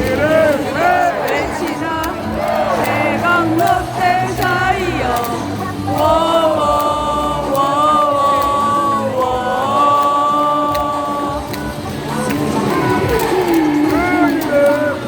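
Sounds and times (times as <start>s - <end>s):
amplified stadium music: 0.0s - 15.0s
crowd singing a cheer song: 0.0s - 15.0s.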